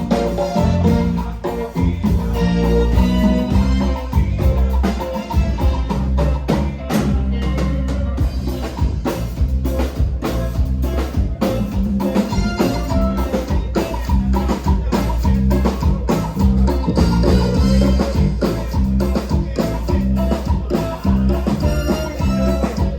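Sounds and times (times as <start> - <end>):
live band playing cumbia: 0.0 - 22.9.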